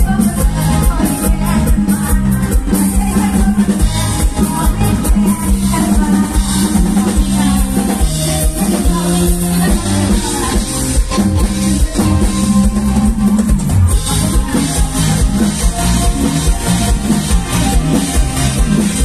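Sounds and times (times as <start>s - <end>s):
live band music over sound system: 0.0s - 19.0s.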